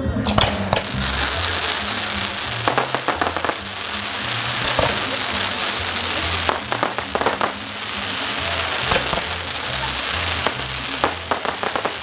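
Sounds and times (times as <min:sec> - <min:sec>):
music with bass line: 0:00.0 - 0:12.0
fireworks crackling: 0:00.3 - 0:12.0
sharp firework pops: 0:00.3 - 0:12.0.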